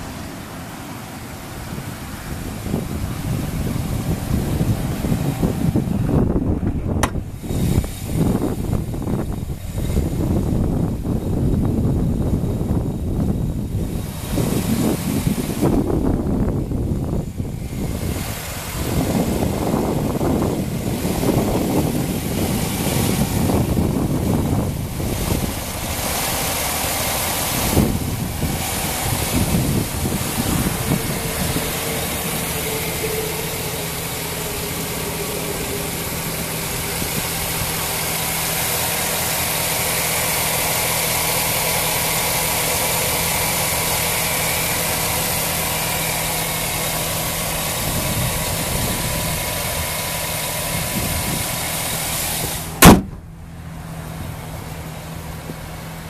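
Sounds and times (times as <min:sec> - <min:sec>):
wind buffeting microphone: 0:00.0 - 0:53.5
pickup engine idling: 0:00.0 - 0:56.0.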